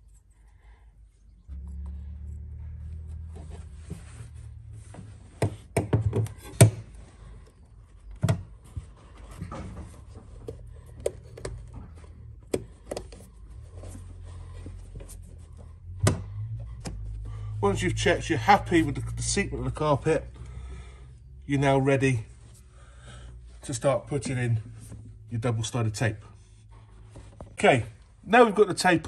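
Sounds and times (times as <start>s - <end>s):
low steady hum: 0.0s - 28.4s.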